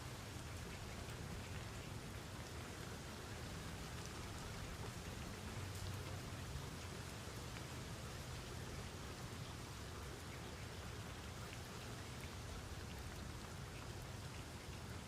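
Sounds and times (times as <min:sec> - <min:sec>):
faint raindrop ticks: 0:00.0 - 0:15.0
steady rainfall hiss: 0:00.0 - 0:15.0.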